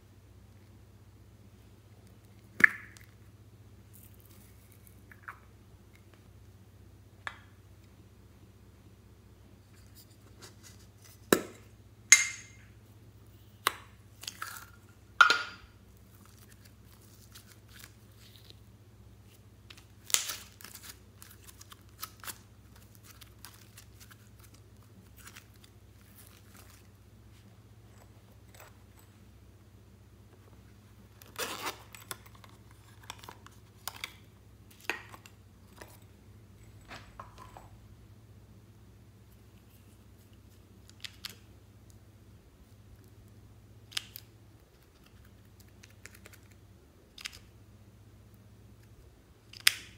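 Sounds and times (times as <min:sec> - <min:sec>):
faint low hum: 0:00.0 - 0:49.9.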